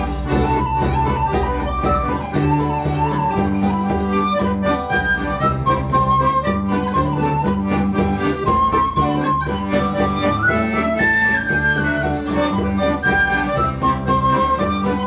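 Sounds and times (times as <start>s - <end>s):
folk band playing a polka: 0.0s - 15.0s.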